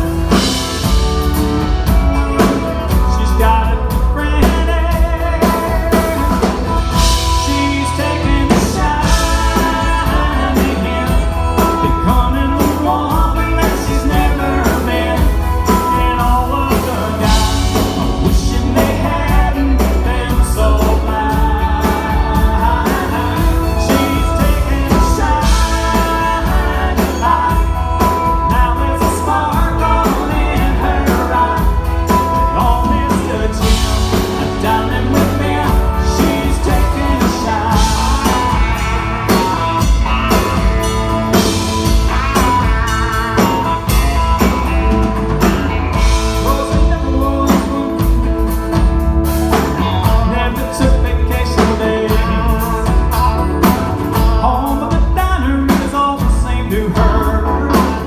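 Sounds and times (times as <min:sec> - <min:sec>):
bass: 0:00.0 - 0:58.0
drums: 0:00.0 - 0:58.0
man singing lead vocal: 0:00.0 - 0:58.0.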